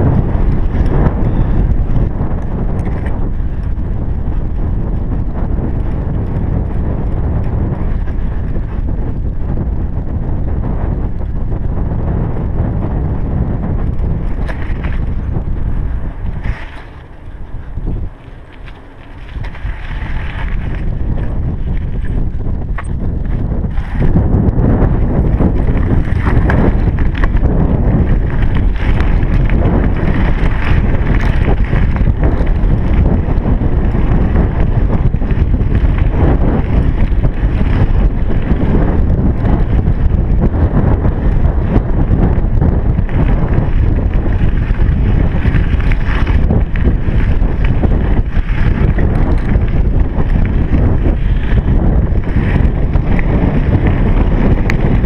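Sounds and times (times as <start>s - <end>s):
bicycle knocks: 0.0s - 3.9s, 13.7s - 55.0s
wind buffeting microphone: 0.0s - 55.0s.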